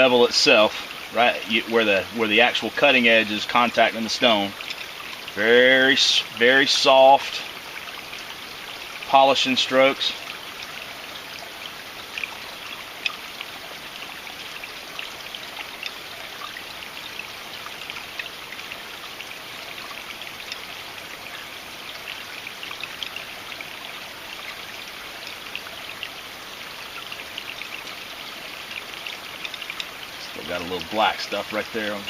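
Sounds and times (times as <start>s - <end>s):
creek babbling: 0.0s - 32.0s.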